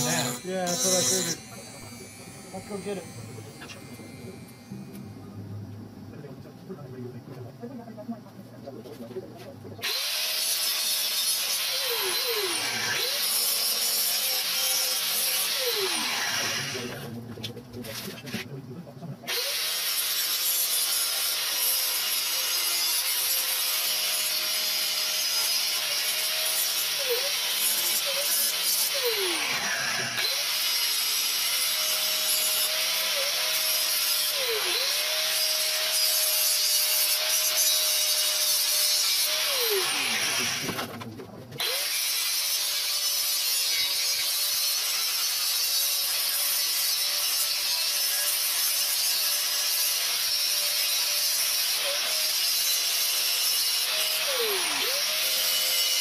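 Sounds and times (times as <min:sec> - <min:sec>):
angle grinder grinding metal: 0:00.0 - 0:05.2, 0:09.8 - 0:17.2, 0:19.3 - 0:41.0, 0:41.6 - 0:56.0.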